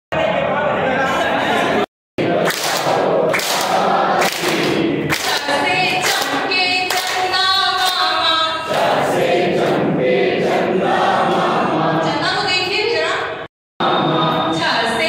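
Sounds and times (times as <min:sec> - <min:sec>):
group of people singing: 0:00.1 - 0:12.7, 0:13.8 - 0:15.0.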